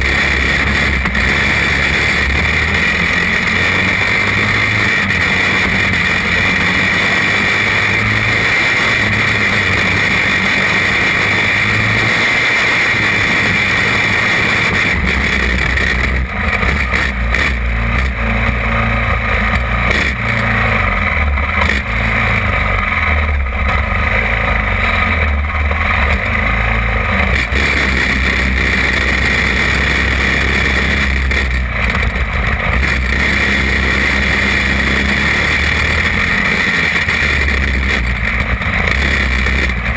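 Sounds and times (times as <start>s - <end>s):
small kart engine running: 0.0s - 39.9s.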